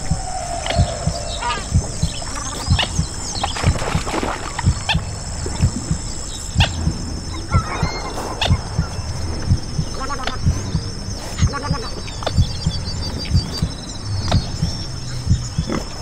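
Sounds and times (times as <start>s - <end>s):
heartbeat thumping: 0.0s - 16.0s
steady high hiss: 0.0s - 16.0s.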